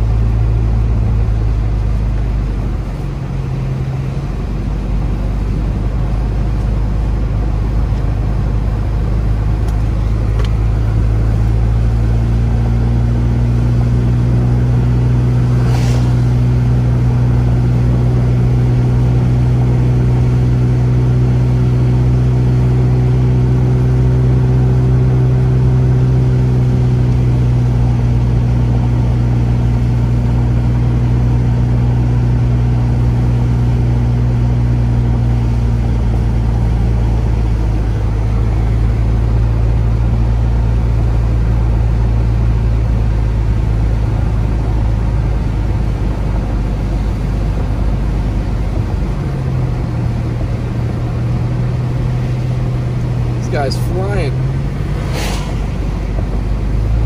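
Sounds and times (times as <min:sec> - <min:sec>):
car engine hum: 0:00.0 - 0:57.0
road rumble: 0:00.0 - 0:57.0.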